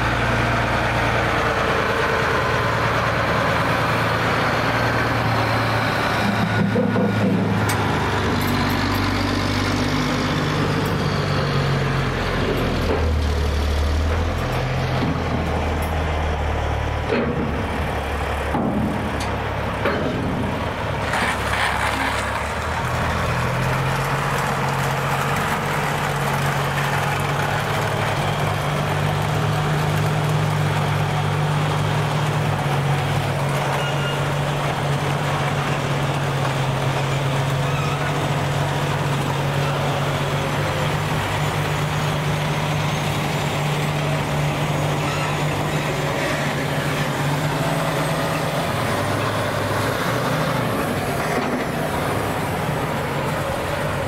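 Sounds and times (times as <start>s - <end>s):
truck diesel engine: 0.0s - 54.0s.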